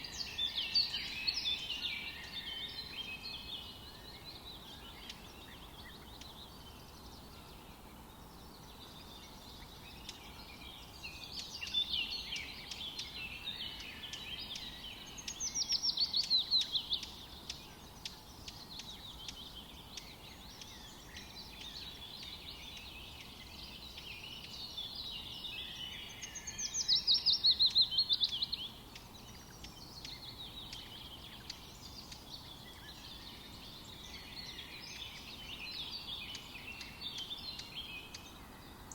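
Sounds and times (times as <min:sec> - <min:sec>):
background hiss: 0:00.0 - 0:38.9
small birds chirping: 0:00.0 - 0:38.9.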